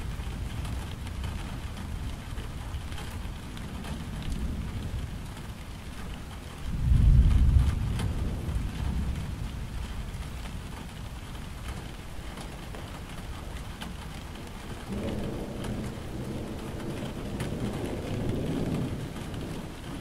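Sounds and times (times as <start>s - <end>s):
low rumble of thunder: 0.0s - 20.0s
steady rain falling: 0.0s - 20.0s.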